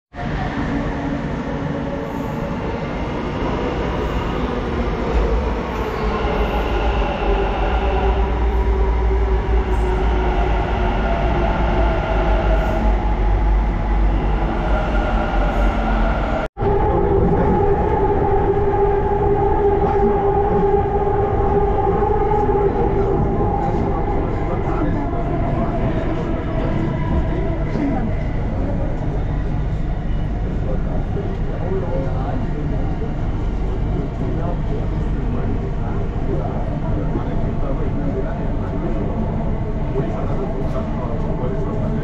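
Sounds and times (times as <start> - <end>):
metro train rumble: 0.1 - 42.0.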